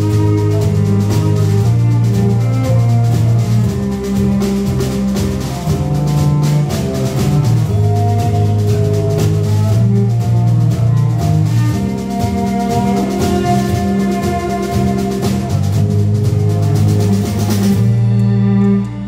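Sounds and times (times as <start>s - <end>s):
drum kit beat: 0.0s - 18.8s
cello: 0.0s - 19.0s
electric bass line: 0.0s - 19.0s.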